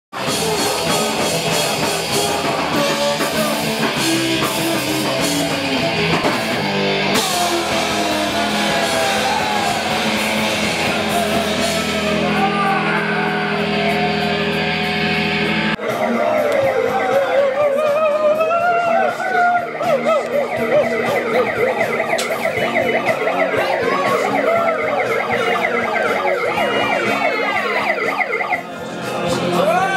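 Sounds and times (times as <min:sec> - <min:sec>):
loud rock music: 0:00.1 - 0:29.9.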